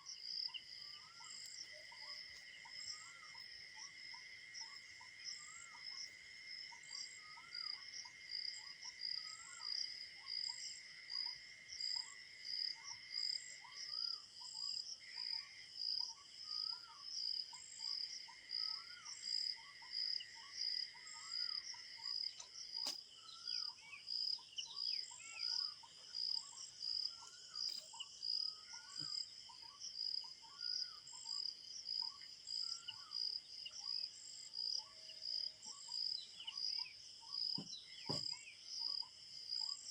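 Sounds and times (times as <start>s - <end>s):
crickets chirping: 0.0s - 39.9s
insect drone: 0.0s - 39.9s.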